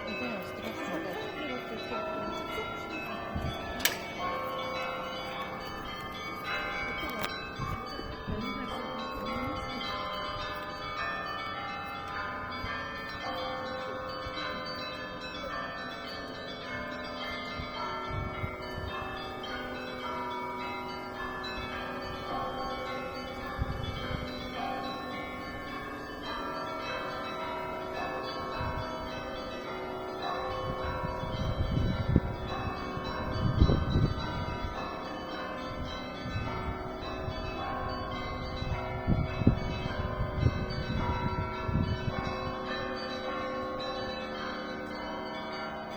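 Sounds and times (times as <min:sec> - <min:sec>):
church bells ringing: 0:00.0 - 0:45.9.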